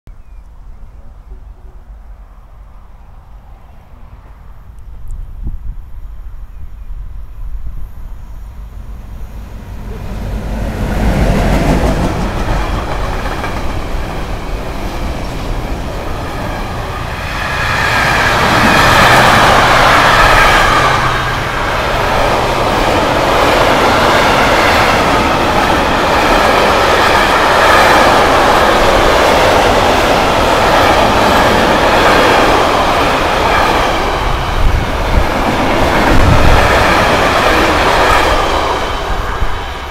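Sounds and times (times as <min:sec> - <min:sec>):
train wheels rumbling on rail: 0:07.4 - 0:39.9.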